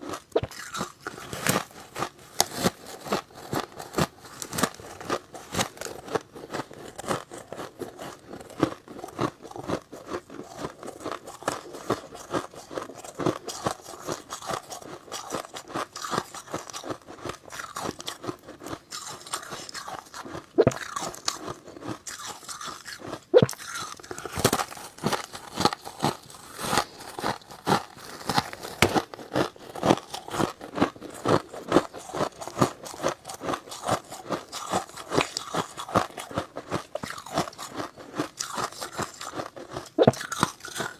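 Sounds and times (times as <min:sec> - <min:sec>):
biting and chewing frost: 0:00.0 - 0:40.9.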